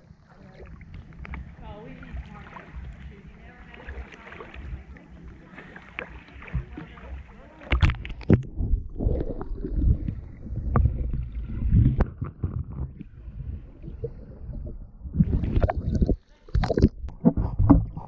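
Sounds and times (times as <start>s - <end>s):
muffled underwater sloshing: 0.0s - 18.0s
water lapping and splashing: 0.0s - 18.0s
underwater clicks and thumps: 0.6s - 3.1s, 3.7s - 13.2s, 13.9s - 18.0s.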